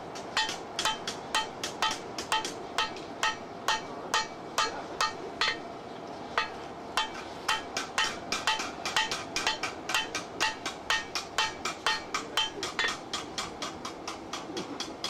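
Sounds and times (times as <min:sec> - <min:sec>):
hammer striking metal on anvil: 0:00.0 - 0:05.7, 0:06.4 - 0:15.0.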